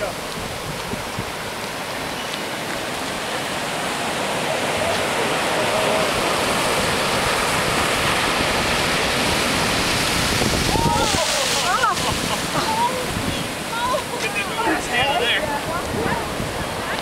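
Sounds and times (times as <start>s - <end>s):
surf rushing over pavement: 0.0s - 17.0s.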